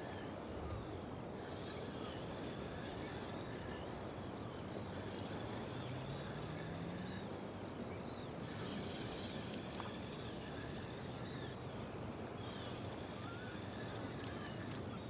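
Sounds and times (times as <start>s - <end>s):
outdoor background noise by water: 0.0s - 15.0s.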